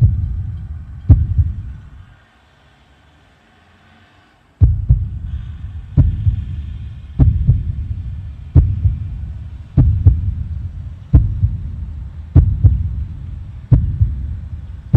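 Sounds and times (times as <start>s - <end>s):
heartbeat-like low thumps: 0.0s - 2.0s, 4.6s - 14.9s
low hum: 0.0s - 2.2s, 4.6s - 14.9s.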